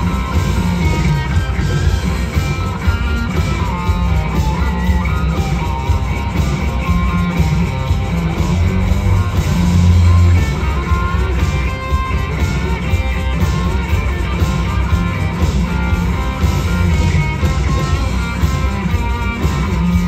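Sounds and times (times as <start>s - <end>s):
bass guitar: 0.0s - 20.0s
drums: 0.0s - 20.0s
electric guitar lead lines: 0.0s - 20.0s.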